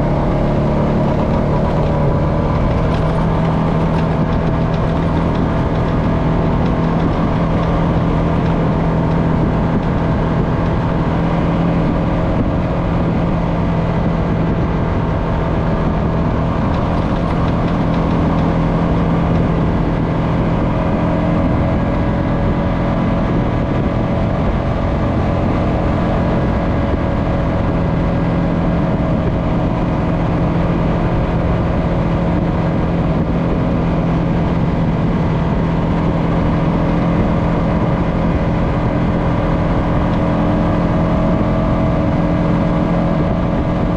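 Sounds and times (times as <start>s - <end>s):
atv engine droning: 0.0s - 43.9s.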